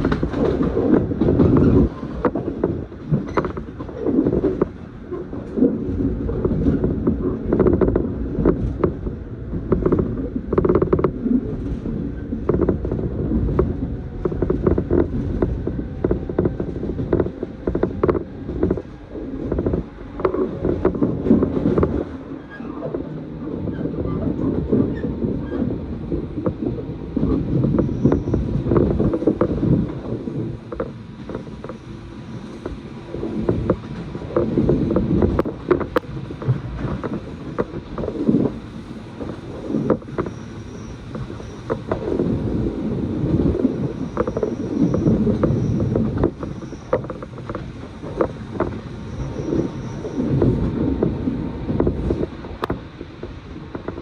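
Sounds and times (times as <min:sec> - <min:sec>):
train low rumble: 0:00.0 - 0:54.0
wheel and track clicks: 0:00.0 - 0:54.0.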